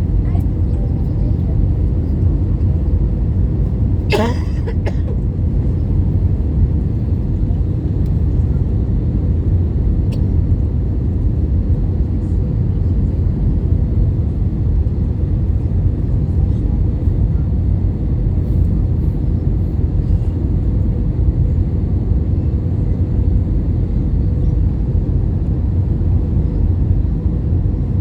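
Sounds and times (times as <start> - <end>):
airliner cabin rumble: 0.0 - 28.0.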